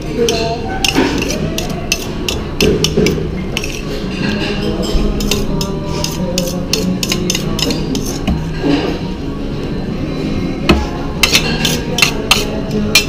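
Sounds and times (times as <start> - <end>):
utensil scraping metal bowl: 0.2 - 9.0, 10.7 - 13.0.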